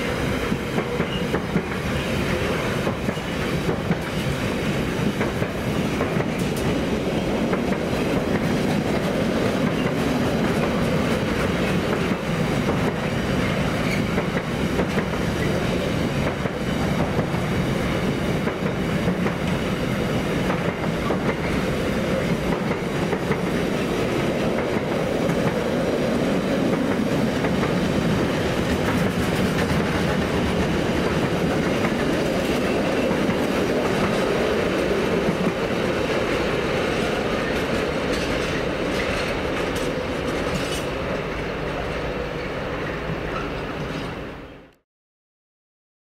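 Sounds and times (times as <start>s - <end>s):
freight train wagons rolling past: 0.0s - 44.6s.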